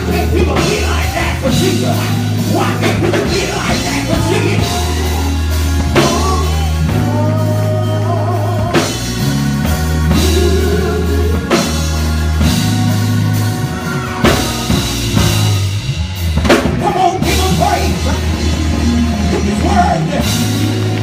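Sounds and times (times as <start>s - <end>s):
drum kit: 0.0s - 21.0s
sustained bass notes: 0.0s - 21.0s.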